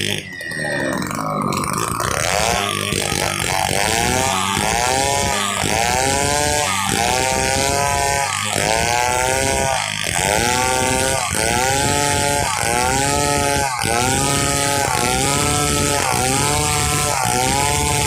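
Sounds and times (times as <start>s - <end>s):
chainsaw cutting a log: 0.0s - 18.0s.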